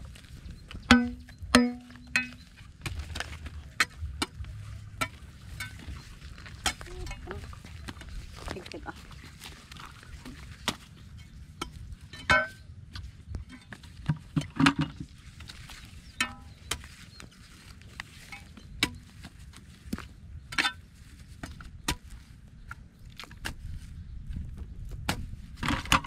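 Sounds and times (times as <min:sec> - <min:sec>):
metal spade scraping dry mud: 0:00.0 - 0:26.0.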